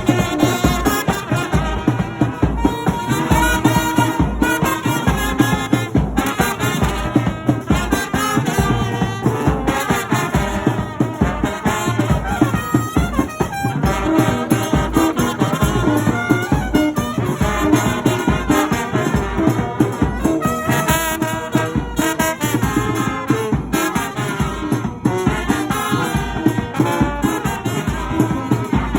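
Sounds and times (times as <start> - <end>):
brass band playing dance music: 0.0 - 28.9
driving beat: 0.0 - 28.9.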